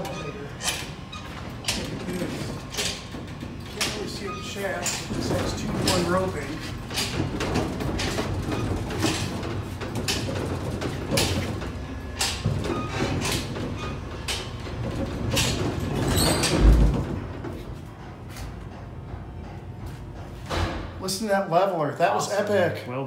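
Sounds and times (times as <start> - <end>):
elevator mechanical rumble: 0.0 - 22.2.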